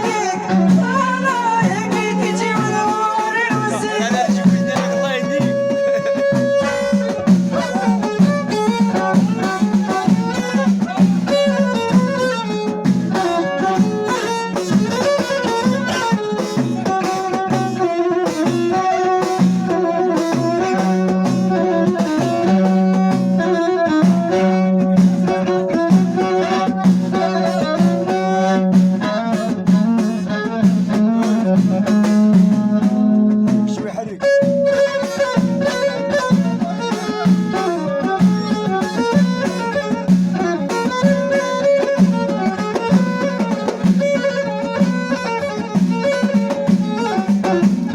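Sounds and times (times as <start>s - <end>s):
bowed string melody: 0.0s - 47.9s
hand drums and percussion: 0.0s - 47.9s.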